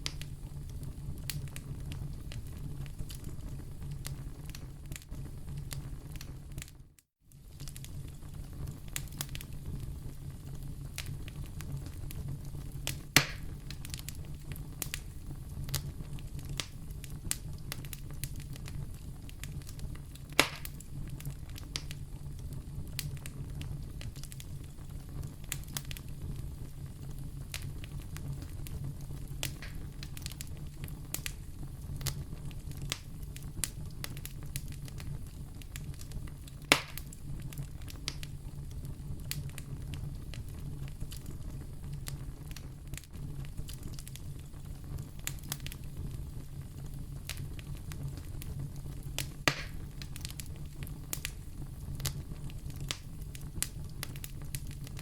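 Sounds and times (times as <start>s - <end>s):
sharp fire pops: 0.0s - 6.8s, 7.4s - 55.0s
wood fire crackling: 0.0s - 55.0s.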